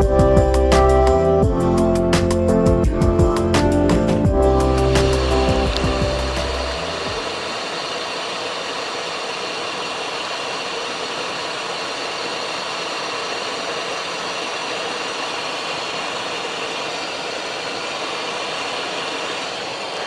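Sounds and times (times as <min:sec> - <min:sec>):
jet engines humming: 0:00.0 - 0:20.0
airflow rushing in jet cabin: 0:03.7 - 0:20.0.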